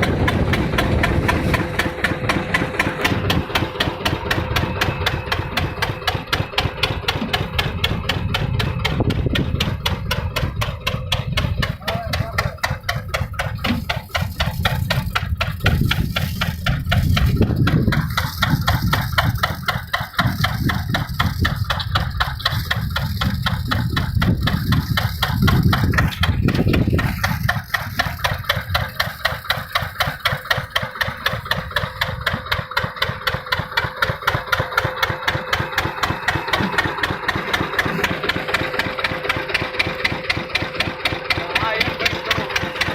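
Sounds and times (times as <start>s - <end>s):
deep engine surges: 0.0s - 42.9s
engine idling: 0.0s - 42.9s.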